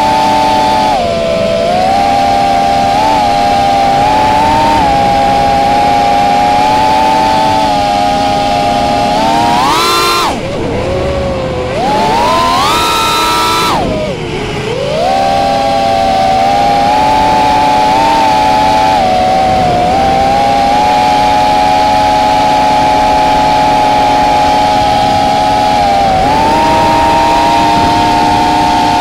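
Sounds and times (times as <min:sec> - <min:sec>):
model aircraft motors whining: 0:00.0 - 0:29.0.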